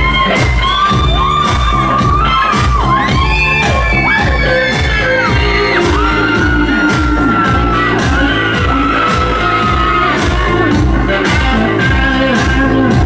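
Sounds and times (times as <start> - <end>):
bass: 0.0 - 13.0
drum beat: 0.0 - 13.0
high sung vocal: 0.0 - 13.0.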